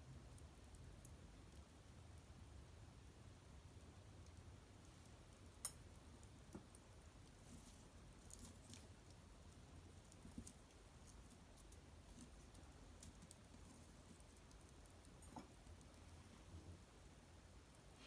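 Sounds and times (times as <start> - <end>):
low steady hum: 0.0 - 18.0
small wood fire crackling: 0.0 - 18.0.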